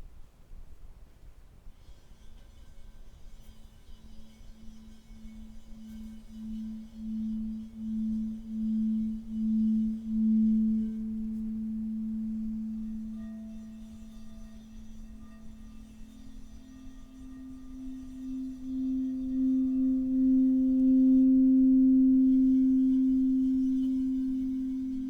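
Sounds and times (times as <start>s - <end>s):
singing bowl low tone: 1.9s - 25.0s
higher singing bowl tone: 3.8s - 25.0s.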